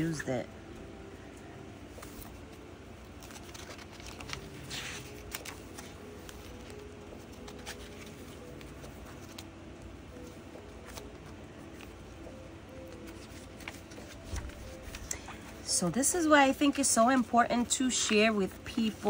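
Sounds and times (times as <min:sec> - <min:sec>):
paper pages turning: 0:01.9 - 0:09.5, 0:10.1 - 0:15.7, 0:16.6 - 0:19.0.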